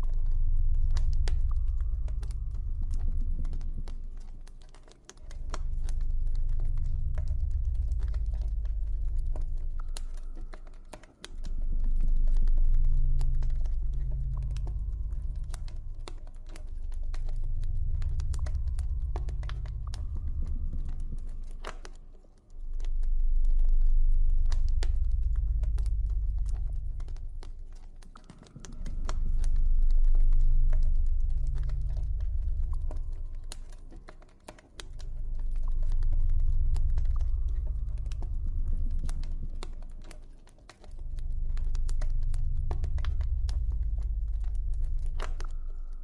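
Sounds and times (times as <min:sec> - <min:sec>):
low ambient drone: 0:00.0 - 0:46.0.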